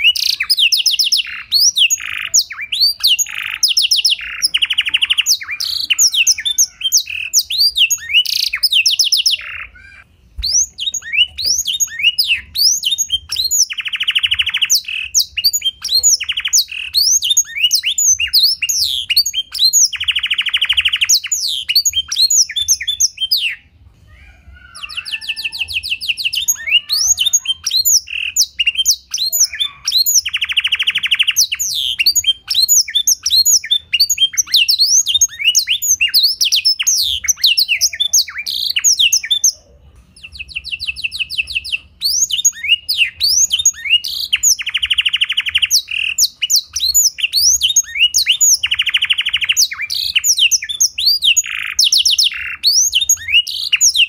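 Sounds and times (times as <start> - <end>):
canary singing trills and chirps: 0.0 - 54.0.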